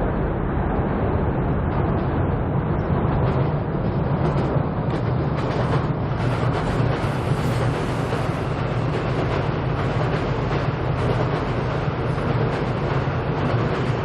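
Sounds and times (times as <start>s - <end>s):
subway train rumbling over bridge: 0.0s - 14.0s.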